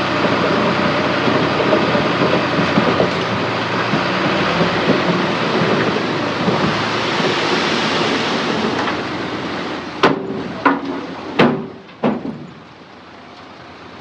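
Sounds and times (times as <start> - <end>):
dump truck rumbling: 0.0 - 14.0.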